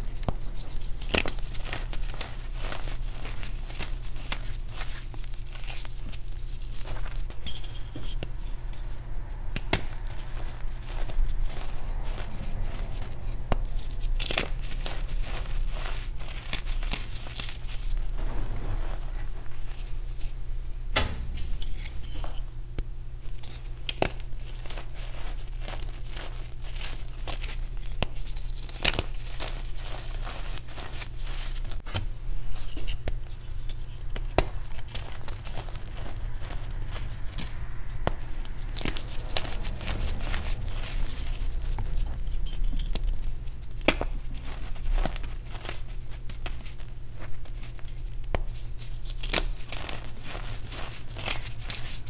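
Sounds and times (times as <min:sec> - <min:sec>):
chalk crunching and crumbling: 0:00.0 - 0:20.4, 0:21.7 - 0:31.8, 0:32.5 - 0:52.0.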